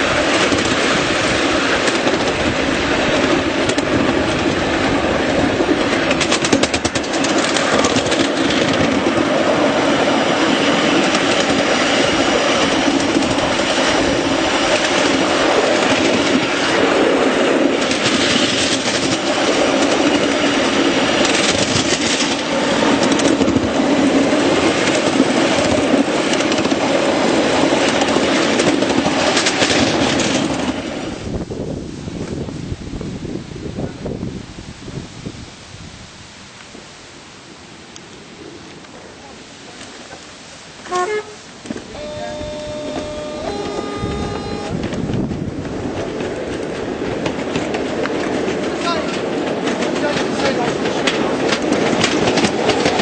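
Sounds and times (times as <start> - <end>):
wheels clattering over rail joints: 0.0 - 31.1, 39.8 - 53.0
miniature train rumbling: 0.0 - 34.2, 38.7 - 53.0.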